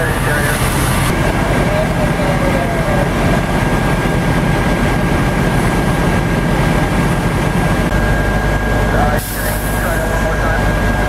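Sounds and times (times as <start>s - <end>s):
diesel engine low drone: 0.0s - 11.0s.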